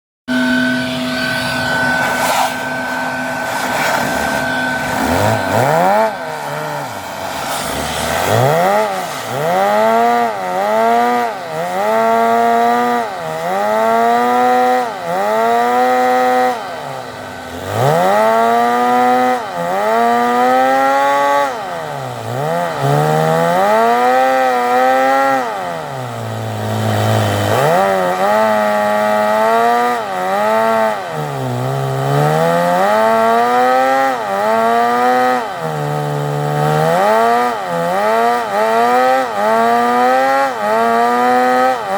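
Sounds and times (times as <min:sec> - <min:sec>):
car engine revving: 0:00.3 - 0:41.9.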